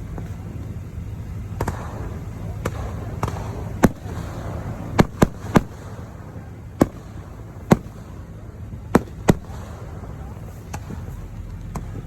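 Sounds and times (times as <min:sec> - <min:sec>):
fireworks bursting: 0:00.0 - 0:12.0
low background noise: 0:00.0 - 0:12.0.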